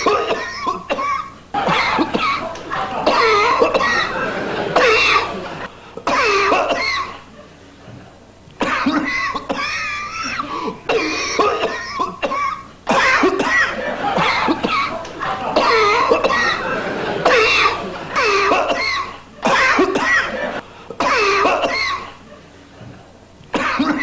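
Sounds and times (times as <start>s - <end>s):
person coughing: 0.0s - 7.3s, 8.6s - 22.2s, 23.6s - 24.0s.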